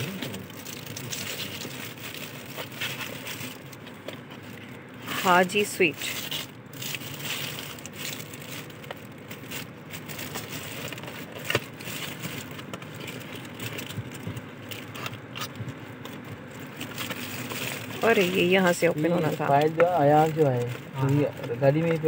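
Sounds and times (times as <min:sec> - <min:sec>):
car interior hum: 0:00.0 - 0:22.0
wrapping crinkling: 0:00.0 - 0:22.0.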